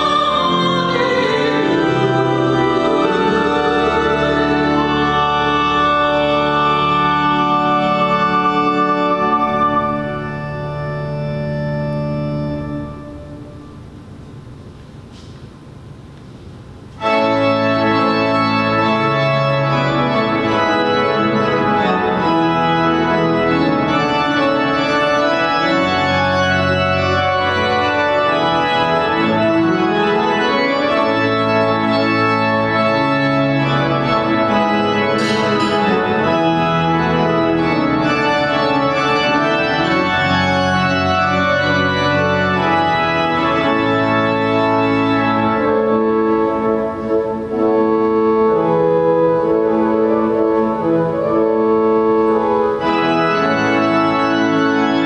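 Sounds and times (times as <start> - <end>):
organ music: 0.0 - 16.1, 16.7 - 55.0.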